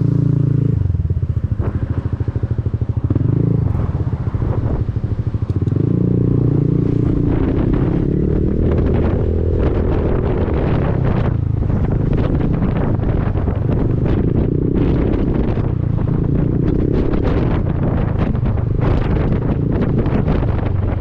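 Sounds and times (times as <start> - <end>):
scooter engine: 0.0 - 21.0
wind buffeting microphone: 0.0 - 21.0.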